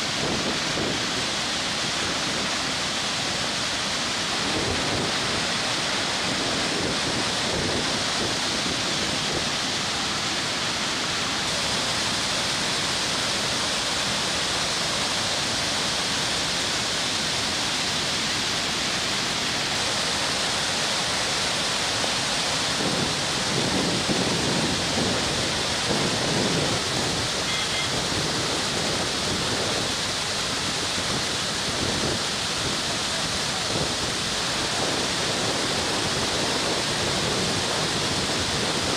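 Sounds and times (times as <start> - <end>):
floodwater rushing and crashing: 0.0 - 38.9.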